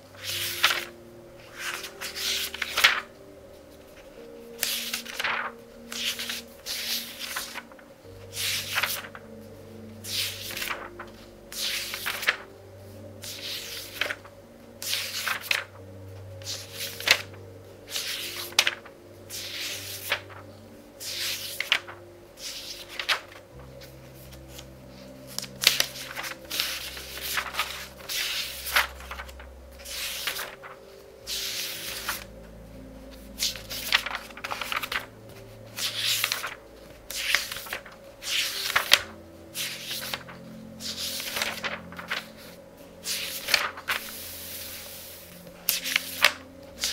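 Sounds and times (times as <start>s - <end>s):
book pages turning: 0.0s - 46.9s
soft music: 0.0s - 46.9s.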